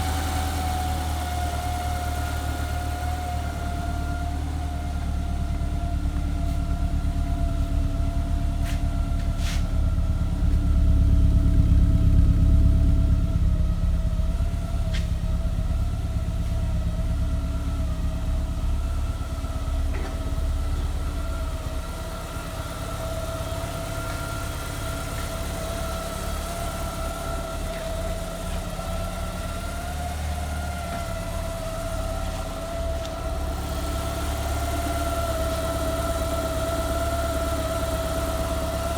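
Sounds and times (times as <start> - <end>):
car engine idling: 0.0 - 38.9
steady engine whine: 0.0 - 38.9.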